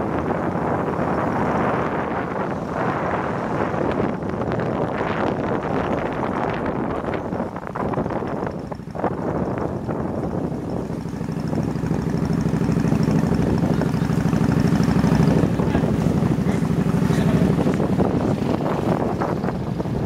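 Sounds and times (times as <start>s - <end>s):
wind buffeting microphone: 0.0s - 20.0s
motorbike engine running: 3.3s - 20.0s.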